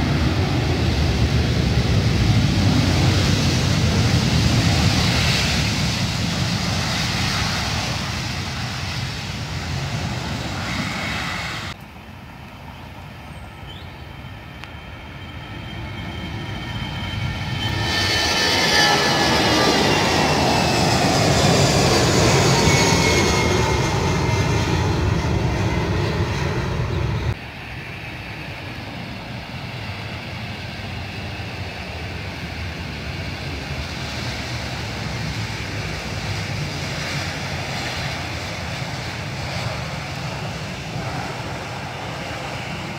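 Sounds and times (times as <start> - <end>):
jet engines running: 0.0 - 42.9
jet taking off with whines: 0.0 - 42.9.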